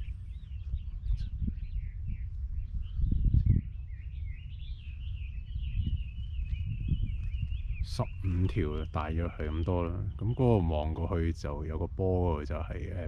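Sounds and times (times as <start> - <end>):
bird warbling song: 0.0 - 13.0
small birds chirping: 0.0 - 13.0
wind noise on microphone: 0.0 - 13.0.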